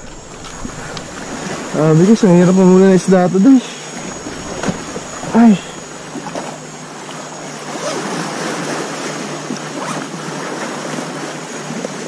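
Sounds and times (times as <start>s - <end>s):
waves washing against rocks: 0.0s - 12.0s.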